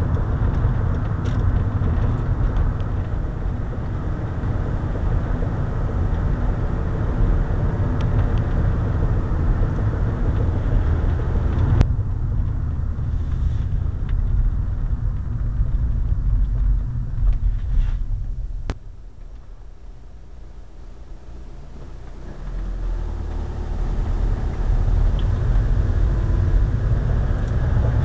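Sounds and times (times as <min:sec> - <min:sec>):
wobbling car wheel rumble: 0:00.0 - 0:28.0.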